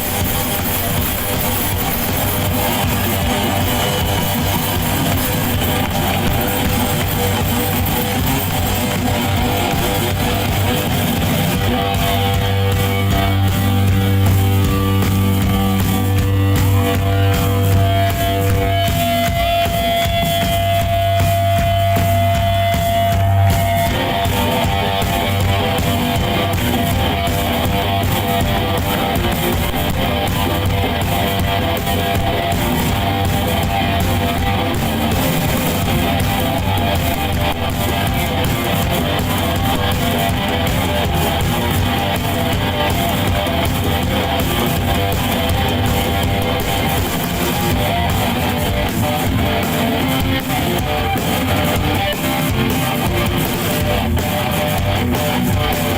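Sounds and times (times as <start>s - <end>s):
electric guitar strummed loudly: 0.0s - 55.9s.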